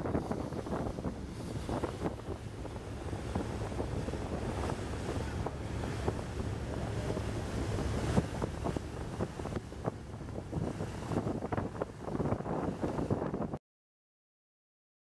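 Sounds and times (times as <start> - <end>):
water washing: 0.0 - 13.1
boat engine rumble: 0.0 - 13.6
wind buffeting microphone: 0.0 - 13.6.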